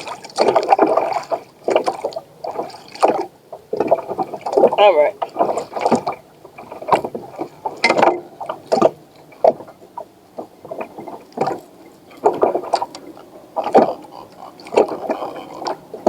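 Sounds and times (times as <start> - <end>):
water splashes: 0.0 - 16.0.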